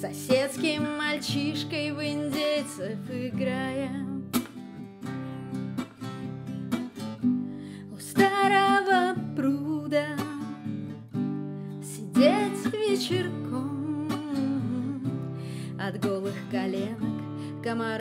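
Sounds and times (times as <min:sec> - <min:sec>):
strummed acoustic guitar: 0:00.0 - 0:18.0.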